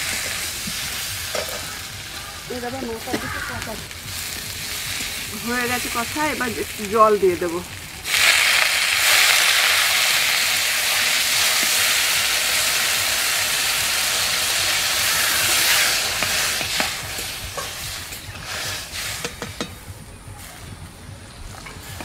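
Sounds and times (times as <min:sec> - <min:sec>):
water sizzling in hot oil: 0:00.0 - 0:19.7.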